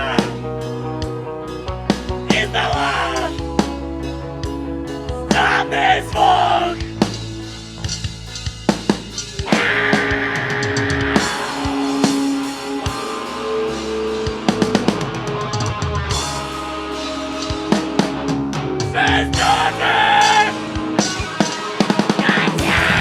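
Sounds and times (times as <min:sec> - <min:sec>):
drum kit strokes: 0:00.0 - 0:23.0
metal band playing live: 0:00.0 - 0:23.0.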